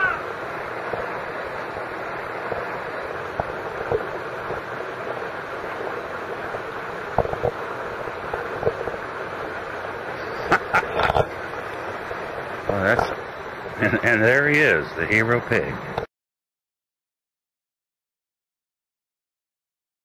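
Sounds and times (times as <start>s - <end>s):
rushing water: 0.0s - 16.1s.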